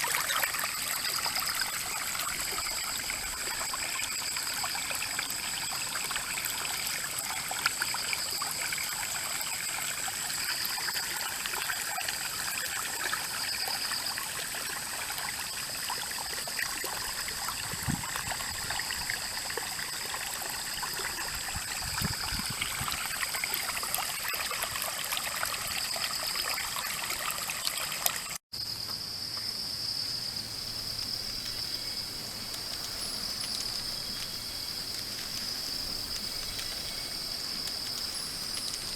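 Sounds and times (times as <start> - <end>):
insects shrilling: 0.0 - 24.5, 28.6 - 38.9
stream flowing and trickling: 0.0 - 28.4, 29.1 - 38.9.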